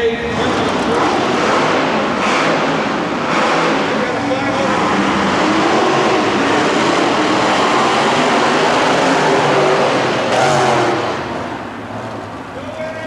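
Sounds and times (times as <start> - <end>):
monster truck engine running: 0.1 - 13.0.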